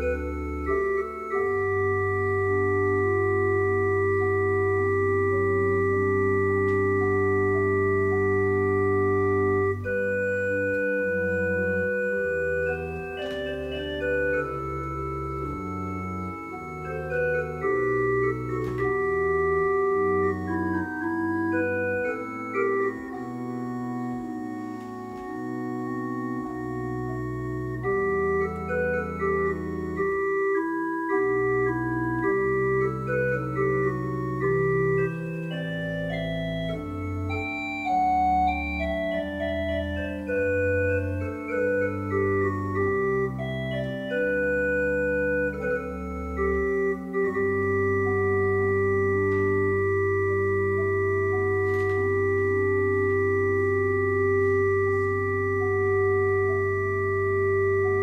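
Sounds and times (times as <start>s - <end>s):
church organ playing: 0.0s - 58.0s.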